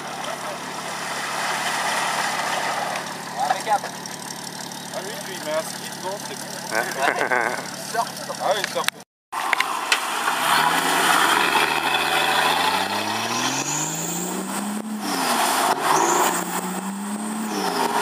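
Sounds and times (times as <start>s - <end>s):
engine pulling under load: 0.0s - 18.0s.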